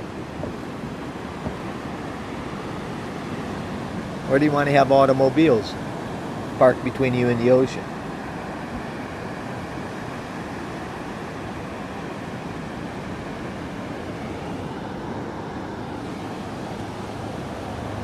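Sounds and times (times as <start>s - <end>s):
waves breaking on a beach: 0.0s - 18.0s.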